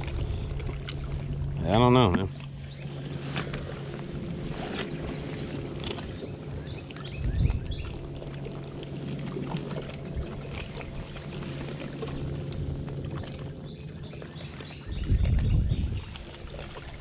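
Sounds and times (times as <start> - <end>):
small boat motor humming: 0.0 - 17.0.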